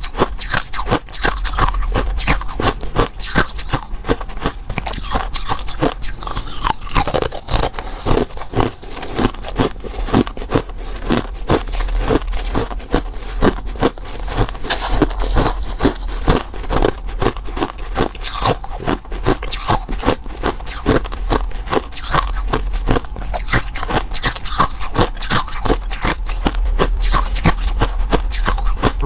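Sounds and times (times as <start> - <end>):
crunching and chewing: 0.0 - 29.0.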